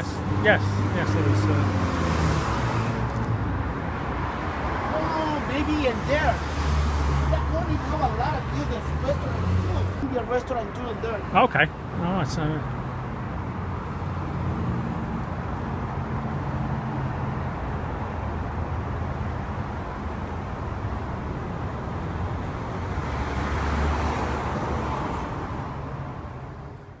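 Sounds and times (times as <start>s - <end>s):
vehicle passing: 0.0s - 18.0s, 22.6s - 26.4s
car engines running: 0.0s - 26.4s.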